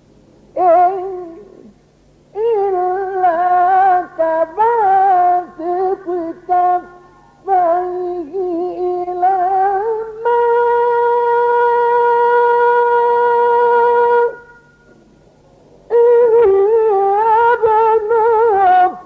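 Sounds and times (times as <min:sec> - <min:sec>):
person reciting melodically: 0:00.6 - 0:14.9, 0:15.9 - 0:19.0.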